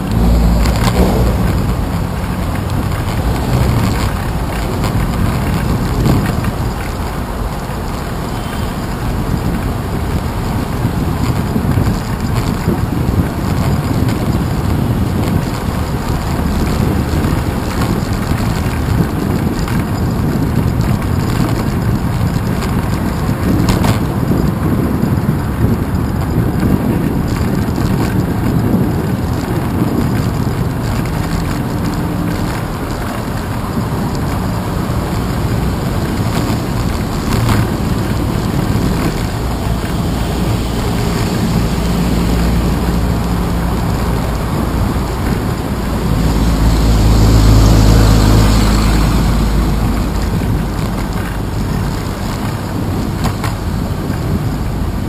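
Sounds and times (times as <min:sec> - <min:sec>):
road rumble: 0:00.0 - 0:55.0
wet tyre noise: 0:00.0 - 0:55.0
wind buffeting: 0:00.0 - 0:55.0.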